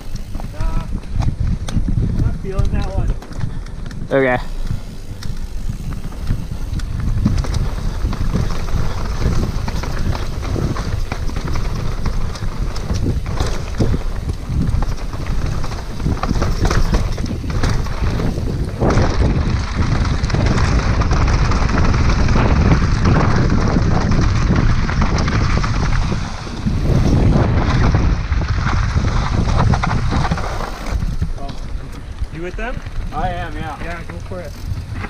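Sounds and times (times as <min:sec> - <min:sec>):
bike knocking and rattling: 0:00.0 - 0:35.0
tyres rolling over dirt and rock: 0:00.0 - 0:35.0
wind buffeting microphone: 0:00.0 - 0:35.0.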